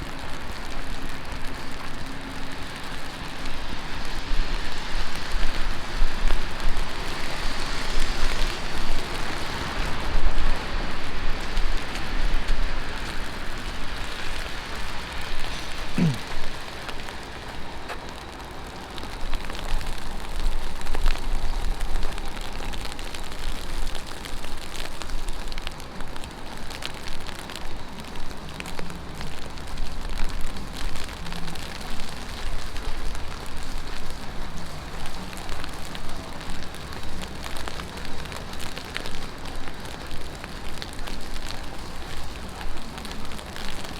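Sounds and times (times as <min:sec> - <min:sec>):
heavy rain on street: 0:00.0 - 0:43.9.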